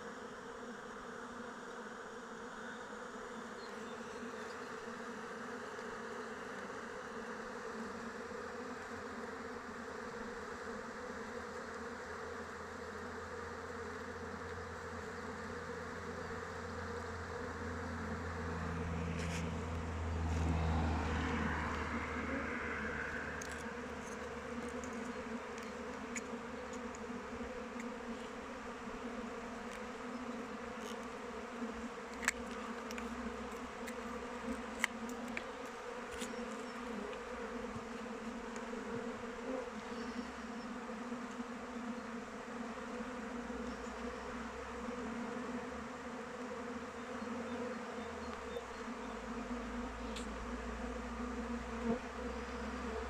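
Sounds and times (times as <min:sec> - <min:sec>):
honeybees buzzing: 0:00.0 - 0:53.0.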